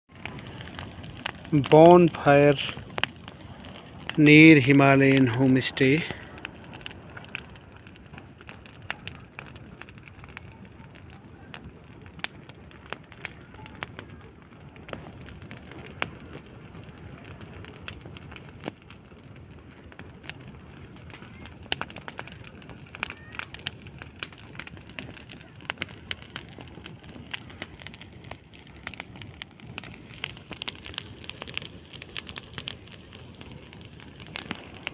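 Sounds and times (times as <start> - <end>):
bonfire crackling and popping: 0.1 - 34.9
low rush of flame: 0.1 - 34.9.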